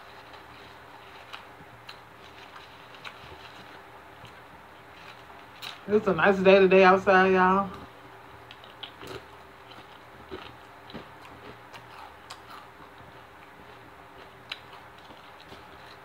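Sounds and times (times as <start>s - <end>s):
chewing crunchy chips: 0.0s - 5.9s, 7.7s - 16.0s.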